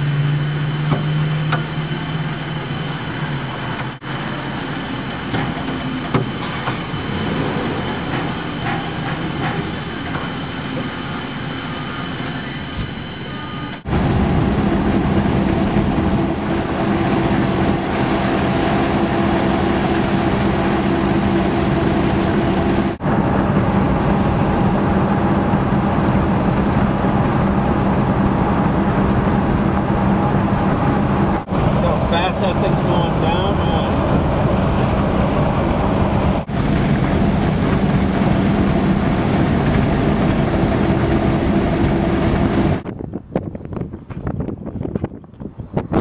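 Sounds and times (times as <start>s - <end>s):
vehicle engine drone: 0.0s - 42.9s
road and wind noise: 0.0s - 46.0s.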